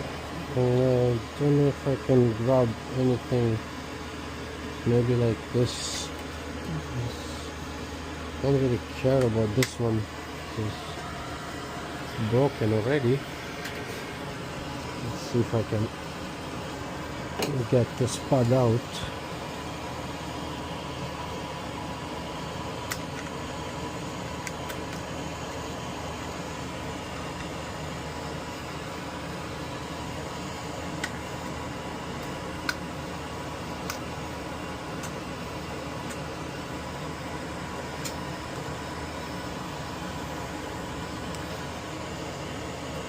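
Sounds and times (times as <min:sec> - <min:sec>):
faint steady hum: 0:00.0 - 0:43.0
fan whirring: 0:00.0 - 0:43.0.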